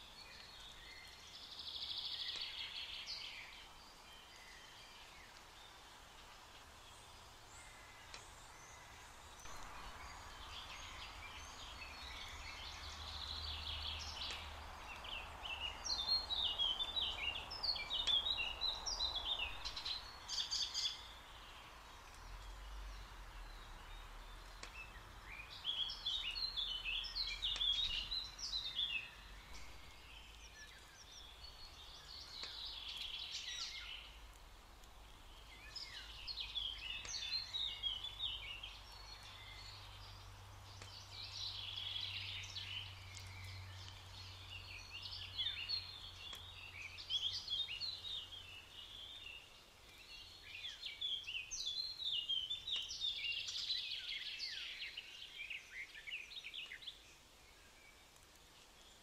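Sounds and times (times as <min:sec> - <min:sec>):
faint steady hiss: 0:00.0 - 0:59.0
songbirds chirping: 0:00.0 - 0:59.0.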